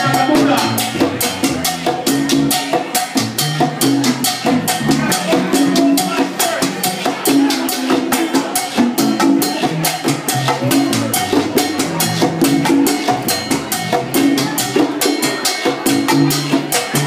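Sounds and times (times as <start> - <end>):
salsa band playing: 0.0 - 17.0.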